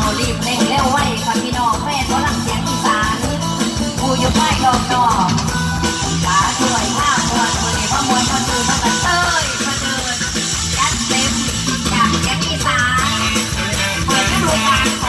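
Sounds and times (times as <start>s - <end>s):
live band with steady beat: 0.0s - 15.0s
woman singing: 0.0s - 15.0s.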